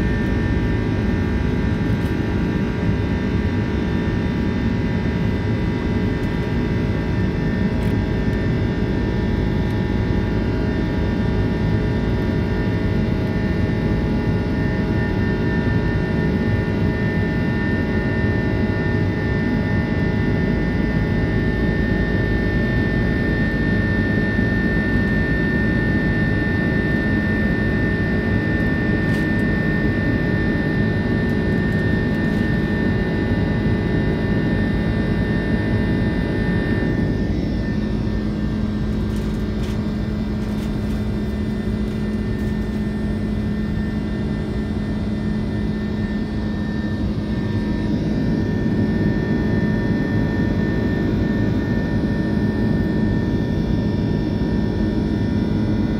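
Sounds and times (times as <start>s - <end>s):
jet engine roar in cabin: 0.0s - 55.9s
whining fan tones: 0.0s - 55.9s.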